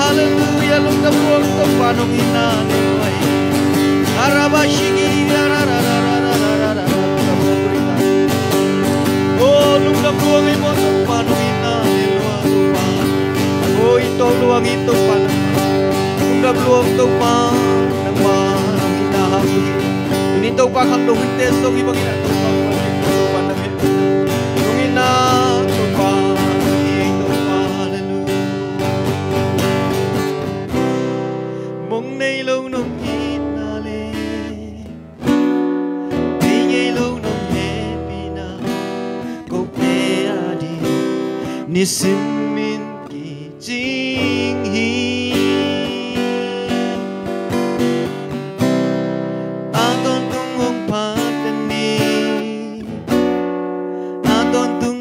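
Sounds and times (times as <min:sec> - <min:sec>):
man singing into microphone: 0:00.0 - 0:35.5, 0:36.2 - 0:48.2, 0:49.6 - 0:53.3, 0:54.0 - 0:55.0
acoustic guitar strumming: 0:00.0 - 0:55.0.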